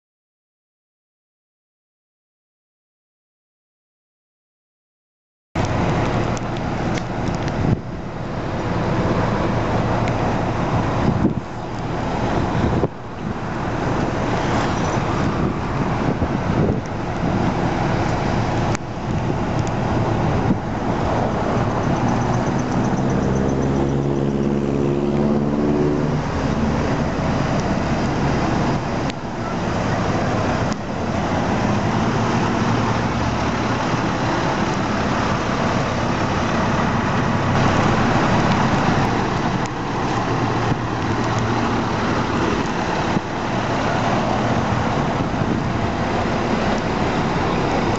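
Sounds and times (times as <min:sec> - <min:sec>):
engine note: 0:05.6 - 0:47.9
road traffic: 0:05.6 - 0:47.9.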